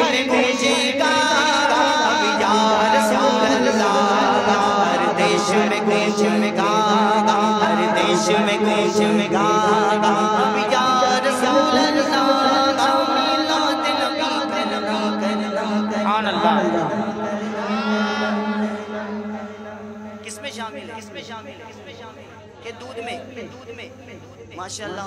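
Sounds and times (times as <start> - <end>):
man singing devotional song: 0.0 - 22.2.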